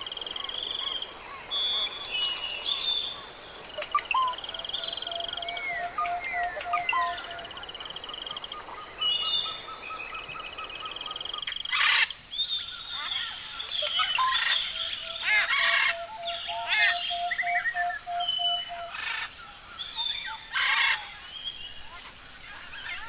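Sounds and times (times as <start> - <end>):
bird chorus chirping and trilling: 0.0 - 23.0.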